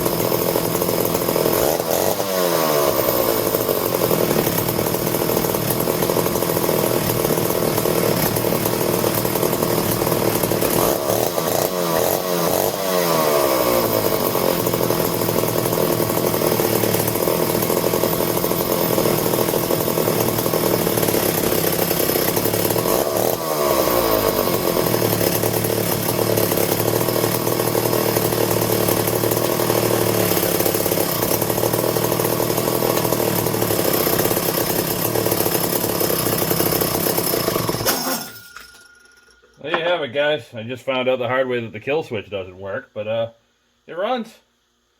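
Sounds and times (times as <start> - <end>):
chainsaw engine idling and revving: 0.0 - 38.5.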